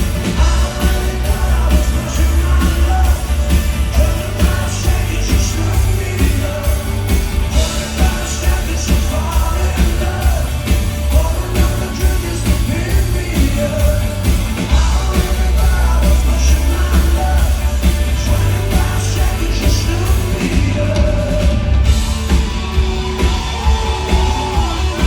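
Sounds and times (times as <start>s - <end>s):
heavy booming bass: 0.0s - 25.0s
live rock band playing: 0.0s - 25.0s
person singing: 0.2s - 21.7s.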